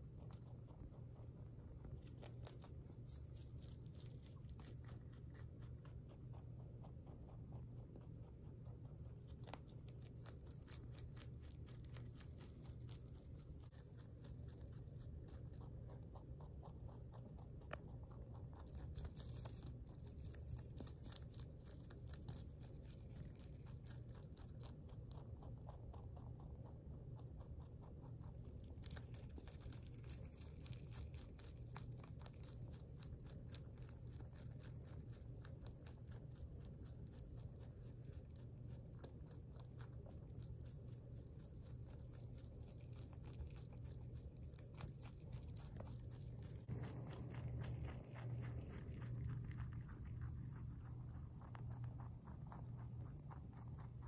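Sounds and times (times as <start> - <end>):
low steady hum: 0.0 - 54.0
rabbit chewing leafy greens: 0.0 - 54.0.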